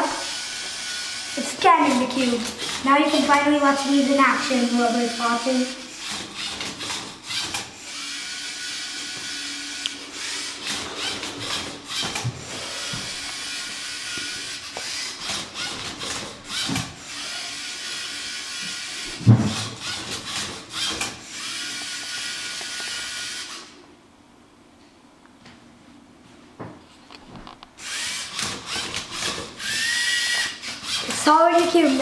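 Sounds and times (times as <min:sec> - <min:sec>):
robot motors whirring: 0:00.0 - 0:23.8, 0:27.8 - 0:32.0.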